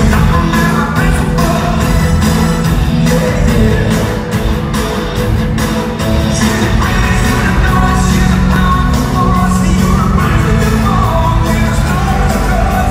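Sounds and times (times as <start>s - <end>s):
loud pop-rock song with singer: 0.0s - 12.9s.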